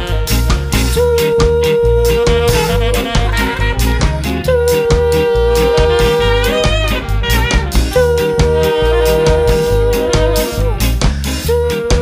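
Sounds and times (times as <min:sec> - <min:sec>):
saxophone long note: 0:00.0 - 0:12.0
ska band playing: 0:00.0 - 0:12.0.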